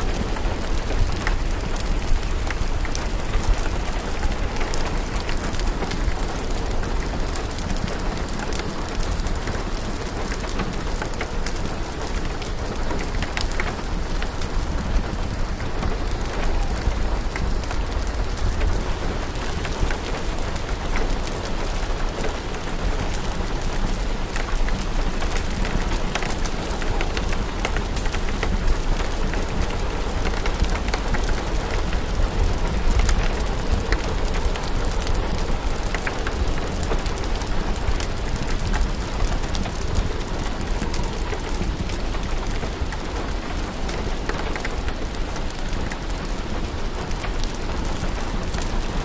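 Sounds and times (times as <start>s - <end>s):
fire crackling: 0.0s - 48.9s
steady rain: 0.0s - 49.0s.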